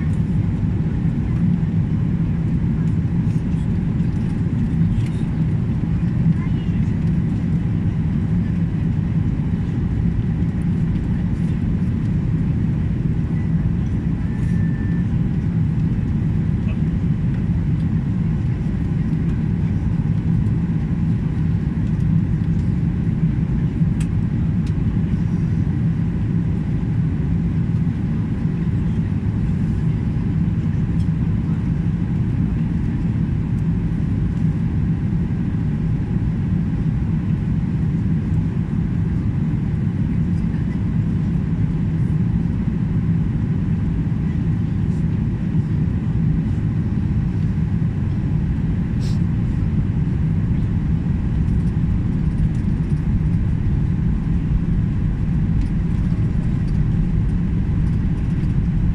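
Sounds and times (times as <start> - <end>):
airliner cabin drone: 0.0 - 58.9.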